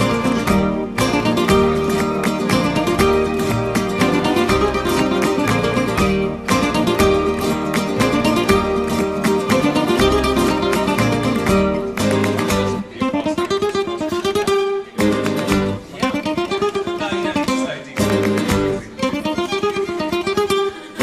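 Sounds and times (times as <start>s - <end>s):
flamenco acoustic guitar: 0.0s - 21.0s.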